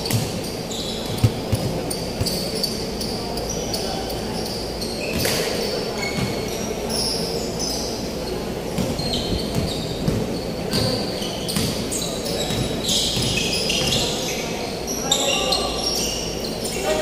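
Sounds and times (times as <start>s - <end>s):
sneakers squeaking on floor: 0.0s - 17.0s.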